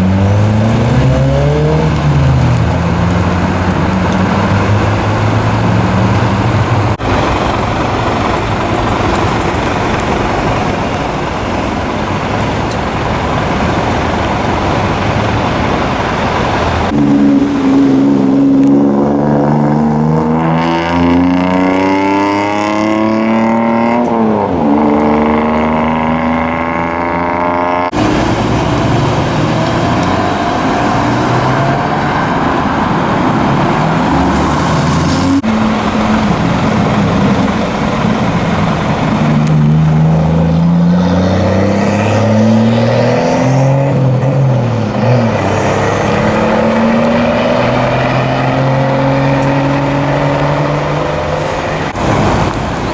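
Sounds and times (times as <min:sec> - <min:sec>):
engine revving as car passes: 0:00.0 - 0:12.4, 0:13.0 - 0:52.9
cars accelerating with loud exhausts: 0:00.0 - 0:52.9.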